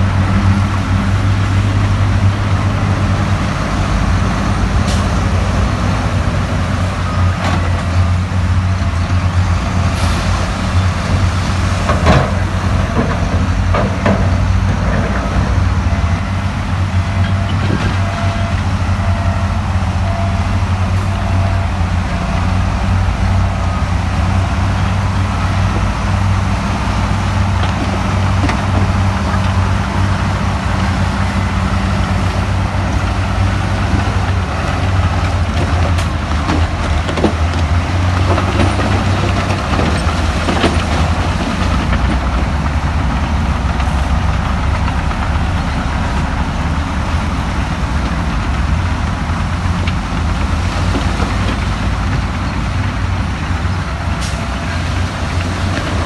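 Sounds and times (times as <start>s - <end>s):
diesel engine deep hum: 0.0s - 56.0s.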